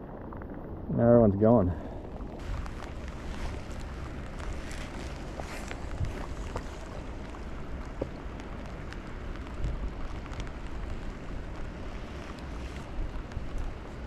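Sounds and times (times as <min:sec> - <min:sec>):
light rain on water: 0:00.0 - 0:14.0
wind rumbling on microphone: 0:00.0 - 0:14.0
small ticks: 0:02.4 - 0:14.0.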